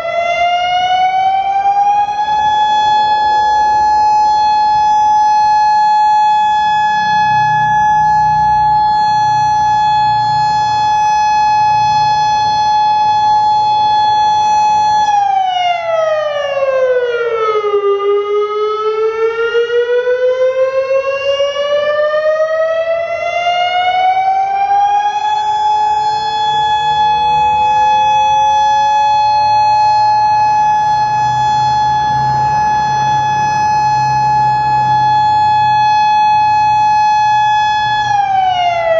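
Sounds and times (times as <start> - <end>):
electronic siren tone: 0.0 - 38.9.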